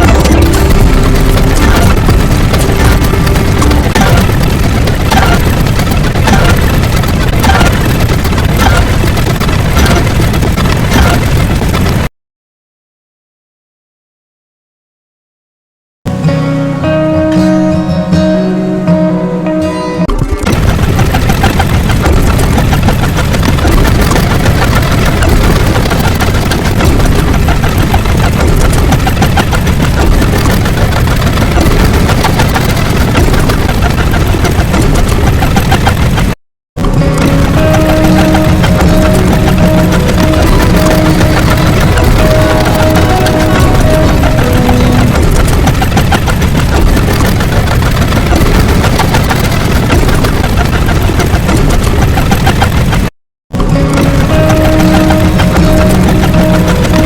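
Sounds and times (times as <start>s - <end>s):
loud rumbling noise: 0.0s - 12.1s, 20.0s - 57.0s
rapid crackling clicks: 0.0s - 12.1s, 20.2s - 57.0s.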